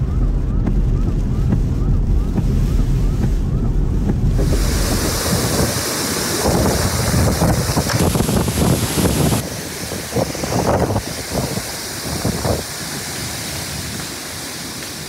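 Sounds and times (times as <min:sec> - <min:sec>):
wind and road noise inside car: 0:00.0 - 0:15.0
wind blowing hard through trees: 0:00.0 - 0:15.0.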